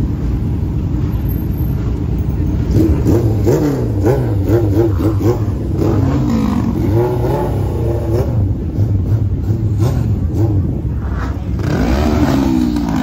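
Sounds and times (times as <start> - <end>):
car engine deep rumble: 0.0 - 13.0
motorcycle engines revving: 0.0 - 13.0.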